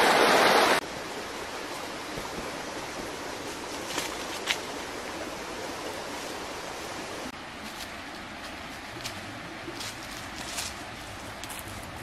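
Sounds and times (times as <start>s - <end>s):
forest stream rushing: 0.0s - 12.0s.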